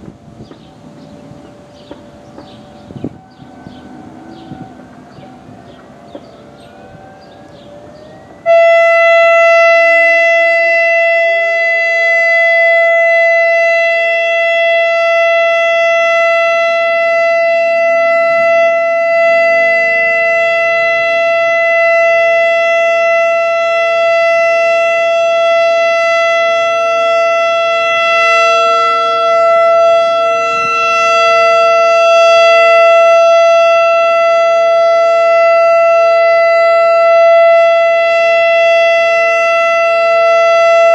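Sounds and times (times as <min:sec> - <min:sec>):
electronic siren steady high tone: 0:00.0 - 0:40.9
fainter second siren: 0:00.0 - 0:40.9.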